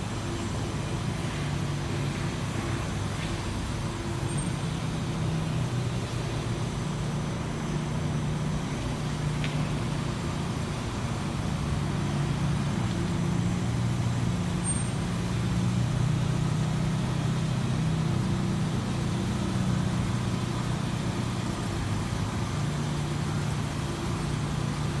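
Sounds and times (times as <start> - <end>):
road traffic noise: 0.0 - 25.0
vehicle engine running: 0.0 - 25.0.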